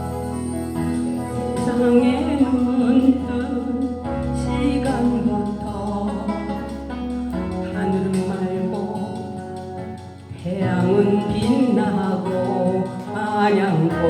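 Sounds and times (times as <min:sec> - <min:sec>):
ballad backing track: 0:00.0 - 0:14.0
lead melody with vibrato: 0:00.0 - 0:14.0.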